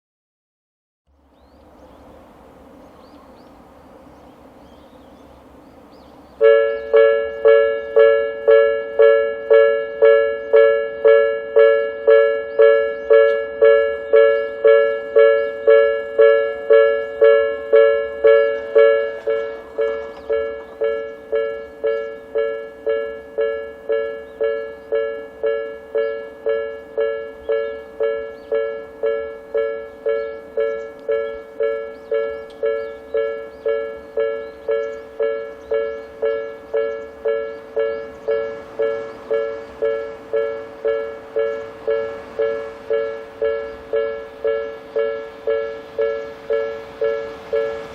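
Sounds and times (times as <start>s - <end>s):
level-crossing two-tone bell: 6.4s - 47.9s.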